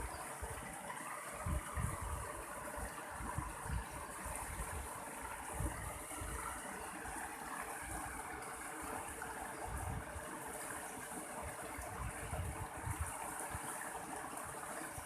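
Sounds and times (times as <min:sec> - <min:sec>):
stream water rushing and splashing: 0:00.0 - 0:15.0.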